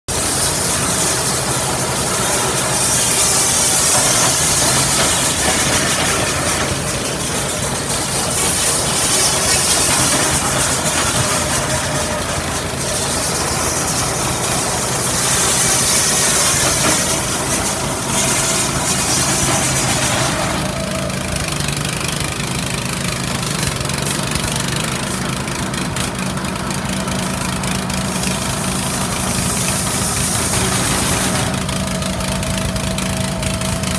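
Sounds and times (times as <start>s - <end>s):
small petrol engine running: 0.1s - 33.9s.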